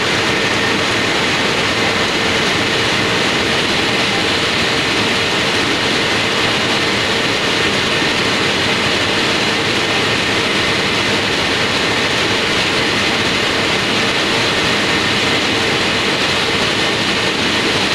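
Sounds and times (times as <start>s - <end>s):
roller machine humming: 0.0s - 17.9s.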